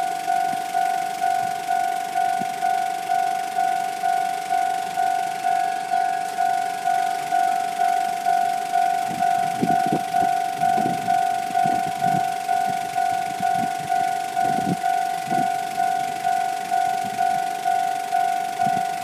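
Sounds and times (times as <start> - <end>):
level crossing warning bell: 0.0 - 19.0.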